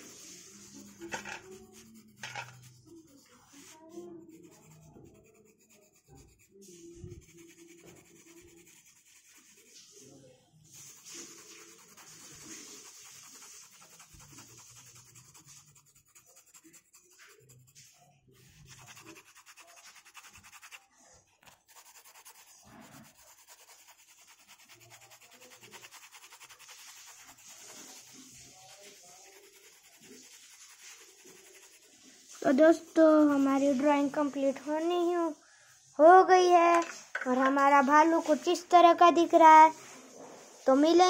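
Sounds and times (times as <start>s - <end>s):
pencil rubbing on paper: 0.0s - 35.4s, 37.6s - 41.0s.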